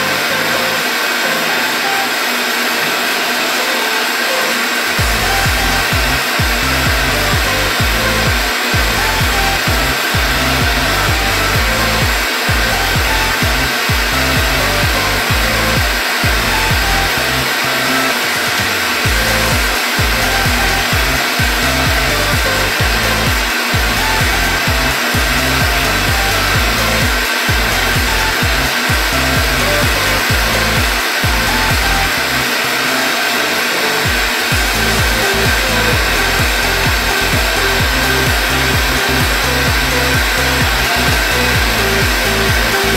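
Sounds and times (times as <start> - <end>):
blowtorches hissing: 0.0 - 42.9.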